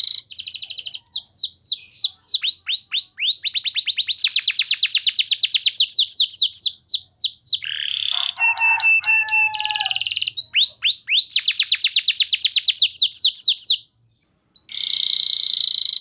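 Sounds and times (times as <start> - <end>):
canary singing trills: 0.0 - 16.0.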